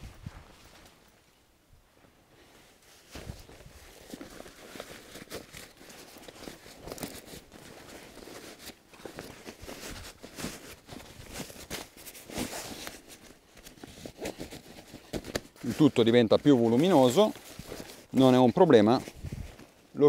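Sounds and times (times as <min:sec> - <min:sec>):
nylon fabric rustling: 0:02.2 - 0:20.0.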